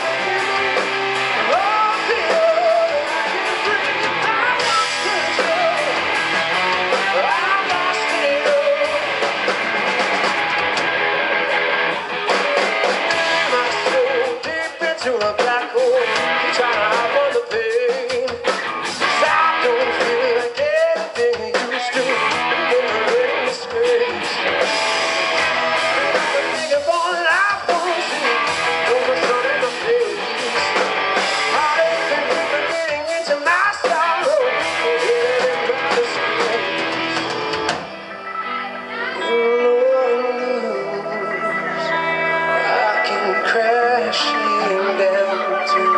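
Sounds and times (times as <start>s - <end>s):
electric guitar lead line bending: 0.0s - 14.9s, 15.7s - 45.9s
live rock band playing: 0.0s - 45.9s.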